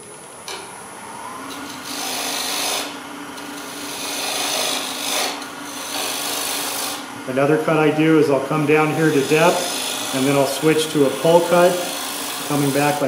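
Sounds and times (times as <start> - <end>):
lathe hum: 0.0 - 13.0
gouge scraping spinning wood: 1.5 - 13.0.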